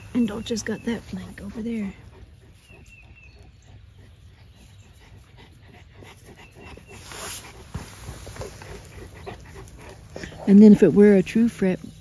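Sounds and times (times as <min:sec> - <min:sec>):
dog panting: 0:00.0 - 0:11.1.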